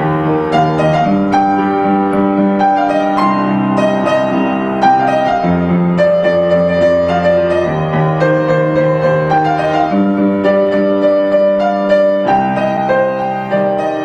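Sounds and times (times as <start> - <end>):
piano melody over chords: 0.0 - 14.0.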